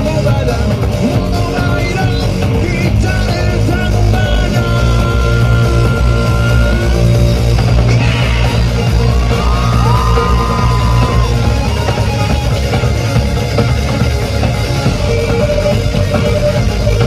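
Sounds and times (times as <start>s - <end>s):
live rock band playing: 0.0s - 17.0s
guitar bending notes: 3.3s - 17.0s.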